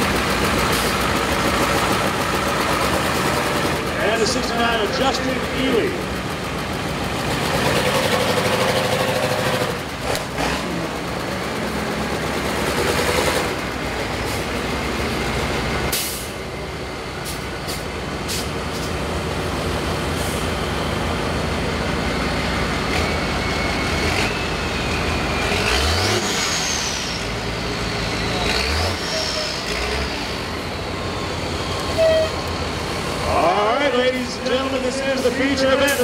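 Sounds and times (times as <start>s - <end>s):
bus engines revving: 0.0s - 36.0s.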